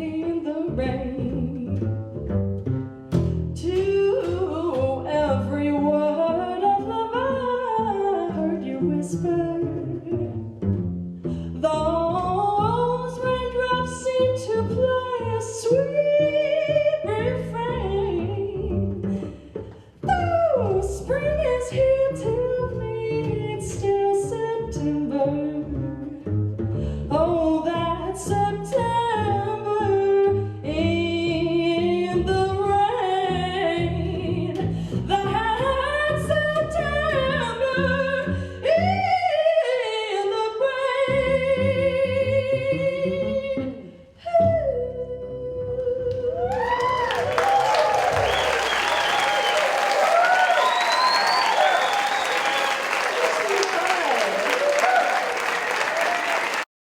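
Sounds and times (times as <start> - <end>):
plucked double bass: 0.0 - 49.4.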